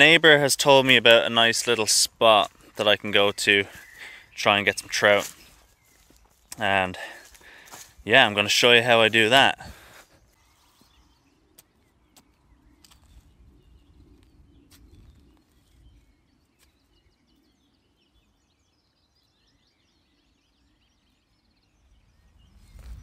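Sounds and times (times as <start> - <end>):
faint distant birdsong: 0.0 - 23.0.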